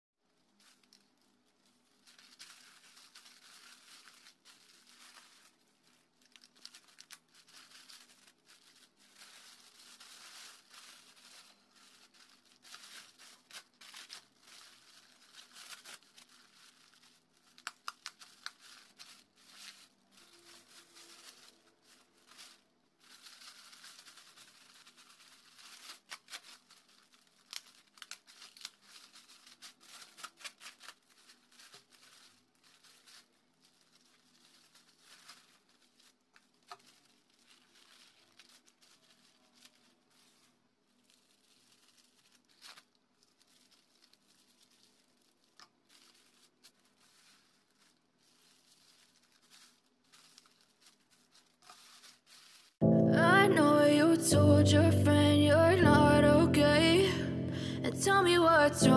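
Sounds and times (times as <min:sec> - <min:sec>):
plastic bag crinkling: 0:00.2 - 0:58.9.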